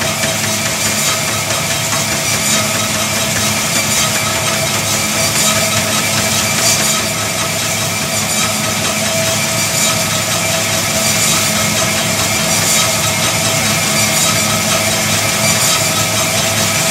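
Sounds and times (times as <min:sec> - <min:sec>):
treadmill running: 0:00.0 - 0:16.9.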